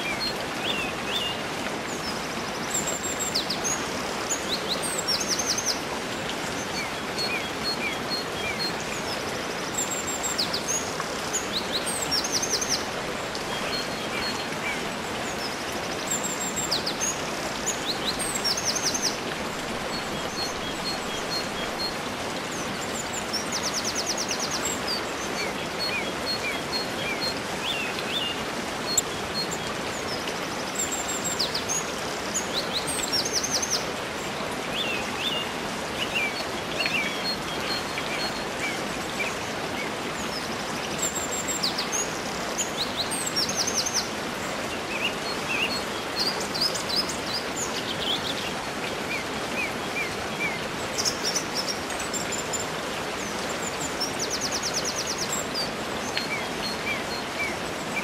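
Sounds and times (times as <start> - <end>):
small birds chirping and trilling: 0.0 - 58.0
waterfall rushing: 0.0 - 58.0.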